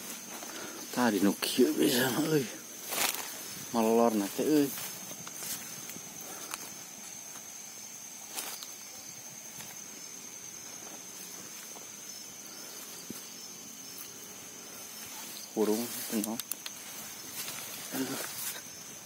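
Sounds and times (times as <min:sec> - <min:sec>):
footsteps on forest floor: 0:00.0 - 0:14.2, 0:14.8 - 0:19.0
high-pitched insect drone: 0:00.0 - 0:19.0.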